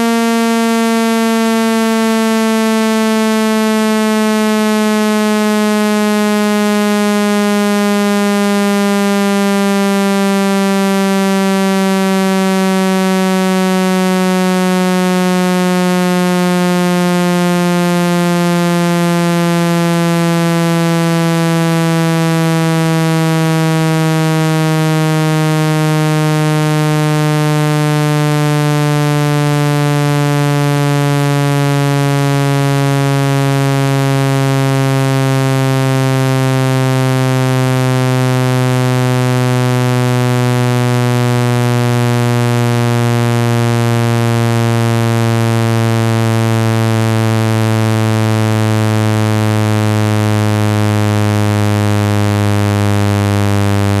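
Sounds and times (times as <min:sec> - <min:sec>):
low buzzing tone falling in pitch: 0:00.0 - 0:54.0.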